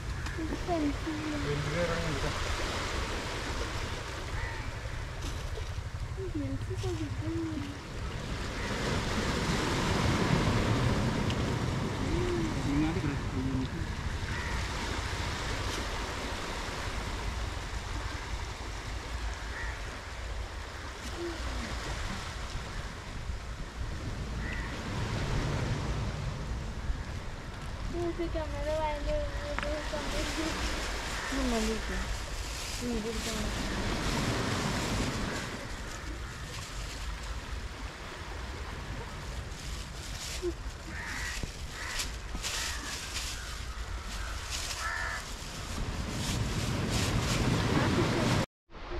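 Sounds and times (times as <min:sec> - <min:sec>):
sea surf washing onto beach: 0:00.0 - 0:48.9
waves breaking on sand: 0:00.0 - 0:48.9.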